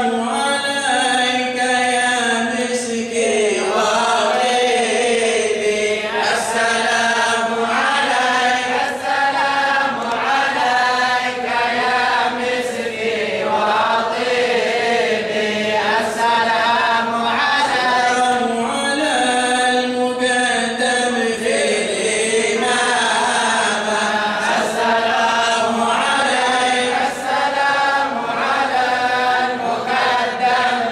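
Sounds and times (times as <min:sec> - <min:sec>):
men chanting devotional poem: 0:00.0 - 0:30.9.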